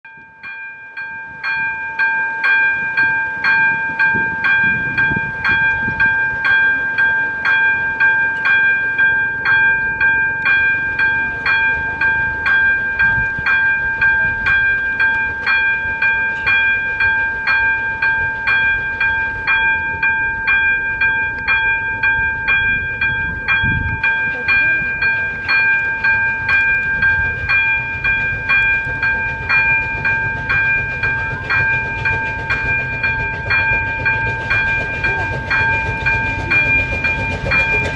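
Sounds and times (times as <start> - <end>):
level crossing bell ringing: 0.1 - 37.9
steam locomotive rumble: 0.2 - 37.9.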